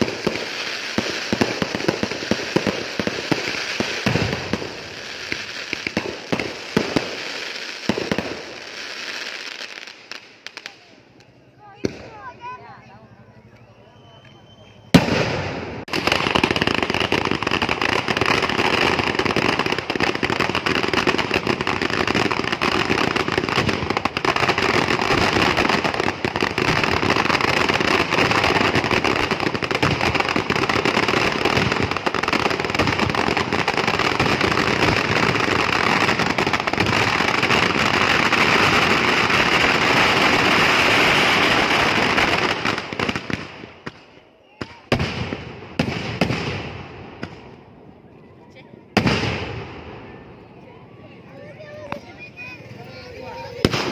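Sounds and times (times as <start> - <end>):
firecracker barrage crackling: 0.0 - 53.9.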